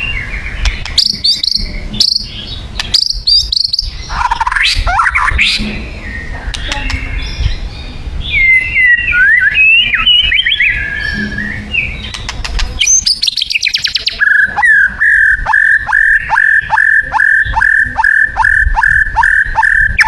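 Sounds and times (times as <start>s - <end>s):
bird whistled song: 0.0s - 20.0s
sharp bird clicks: 0.6s - 5.6s, 6.5s - 7.2s, 9.4s - 19.9s.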